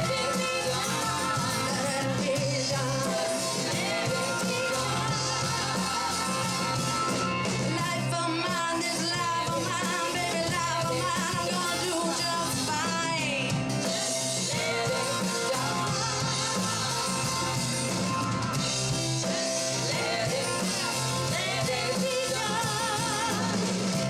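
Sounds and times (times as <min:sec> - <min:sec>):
acoustic guitar: 0:00.0 - 0:24.0
drums: 0:00.0 - 0:24.0
electric bass: 0:00.0 - 0:24.0
keyboard: 0:00.0 - 0:24.0
women singing: 0:00.0 - 0:24.0.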